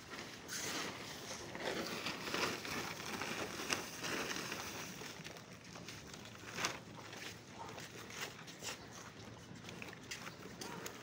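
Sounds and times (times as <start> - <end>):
plastic sack rustling: 0.0 - 11.0.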